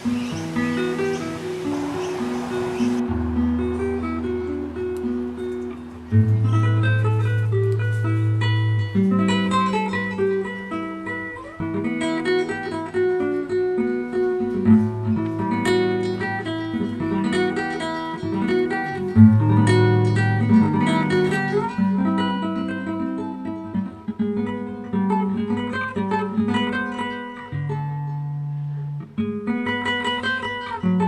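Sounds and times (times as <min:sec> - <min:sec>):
finger-style acoustic guitar: 0:00.0 - 0:31.0.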